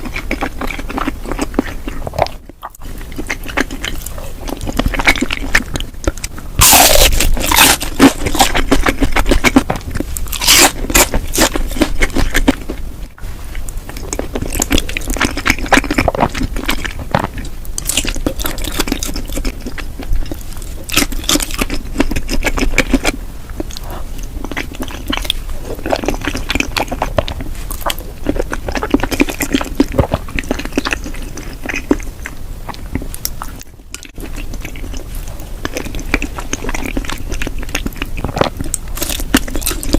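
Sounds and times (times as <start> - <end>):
chewing and biting food: 0.0 - 39.9.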